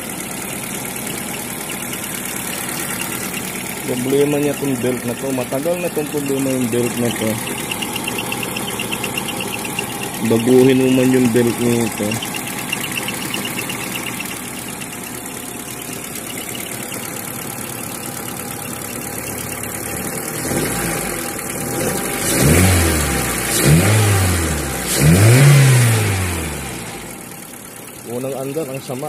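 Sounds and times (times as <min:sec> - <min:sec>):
rough car engine idling and revving: 0:00.0 - 0:29.0.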